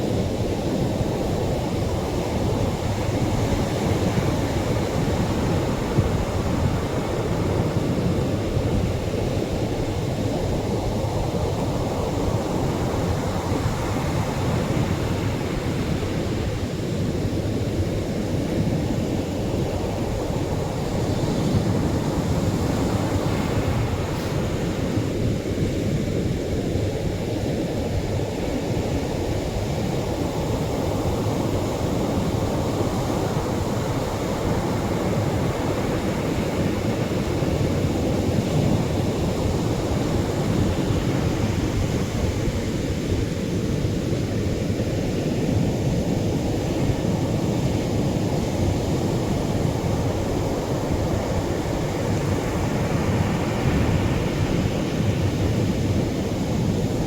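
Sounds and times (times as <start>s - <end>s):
waves washing on shore: 0.0s - 57.0s.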